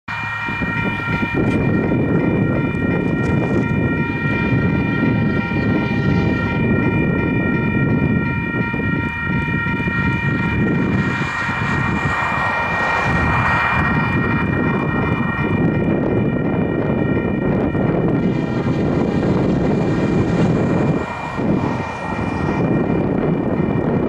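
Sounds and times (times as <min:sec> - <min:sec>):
locomotive air horn: 0:00.1 - 0:23.5
loud low rumble: 0:00.5 - 0:24.0.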